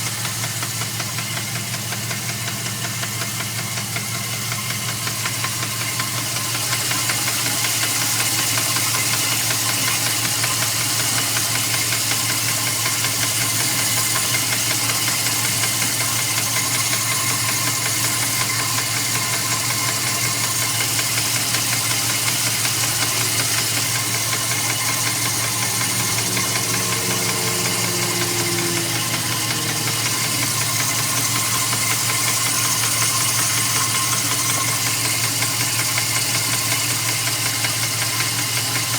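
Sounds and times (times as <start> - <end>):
engine running: 0.0 - 38.9
engine ticking knock: 0.0 - 38.9.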